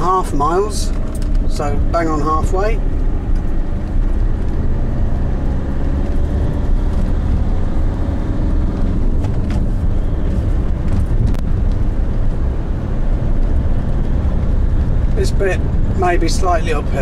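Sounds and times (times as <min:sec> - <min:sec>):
tyres and engine rumble in car: 0:00.0 - 0:17.0.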